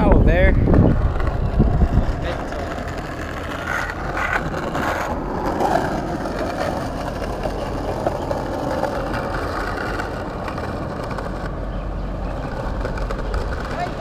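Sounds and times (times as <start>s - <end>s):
skateboard wheels rolling on stone: 0.0s - 14.0s.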